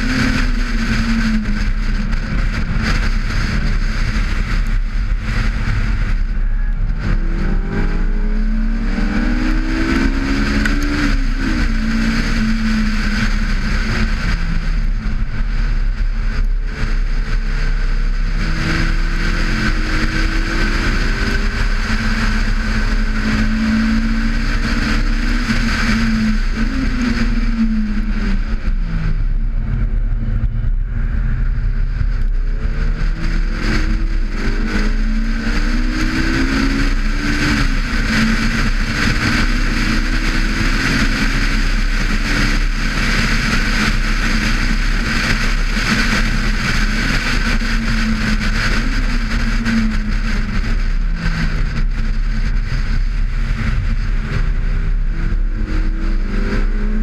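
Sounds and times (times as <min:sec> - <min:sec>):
car engine revving under load: 0:00.0 - 0:57.0
wind and road noise: 0:00.0 - 0:57.0.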